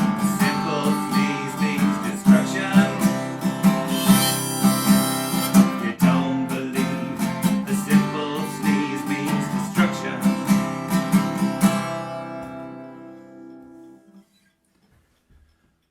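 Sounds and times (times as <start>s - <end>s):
acoustic guitar strumming: 0.0s - 14.2s.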